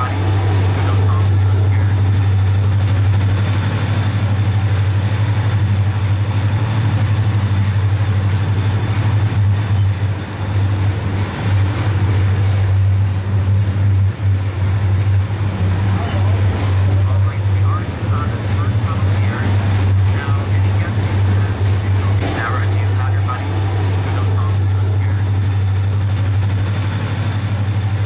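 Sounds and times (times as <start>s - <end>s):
train rumbling in tunnel: 0.0s - 28.0s.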